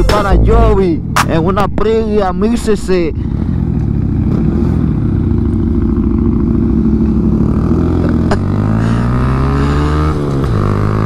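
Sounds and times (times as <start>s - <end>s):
motorcycle engine accelerating: 0.0s - 2.3s, 3.2s - 11.0s.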